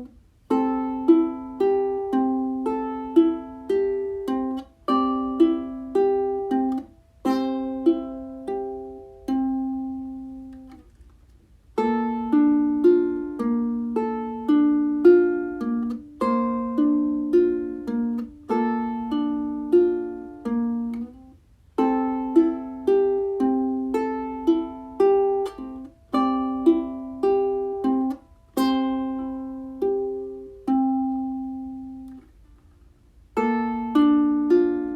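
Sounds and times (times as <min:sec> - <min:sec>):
ukulele melody: 0:00.0 - 0:34.9.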